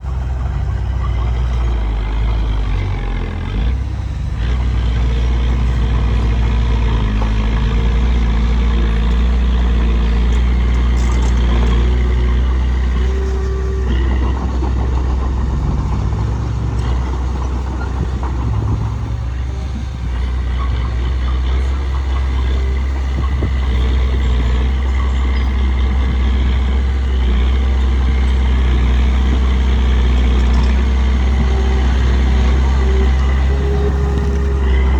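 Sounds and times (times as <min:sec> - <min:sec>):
bulldozer diesel engine droning: 0:00.0 - 0:34.9.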